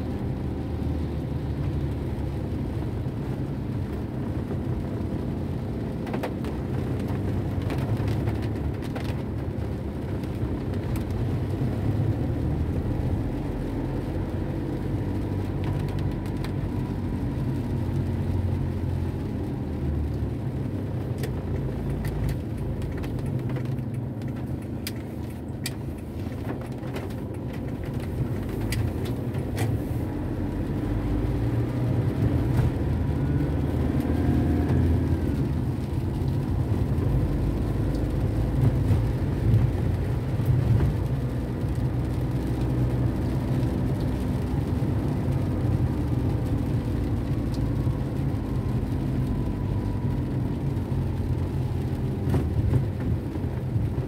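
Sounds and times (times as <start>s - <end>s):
engine and tyre rumble: 0.0s - 54.0s
raindrops ticking on windshield: 0.0s - 54.0s.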